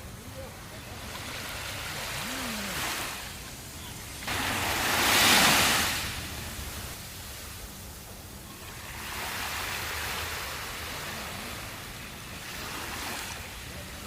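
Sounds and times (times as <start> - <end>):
waves washing onto beach: 0.0 - 14.0.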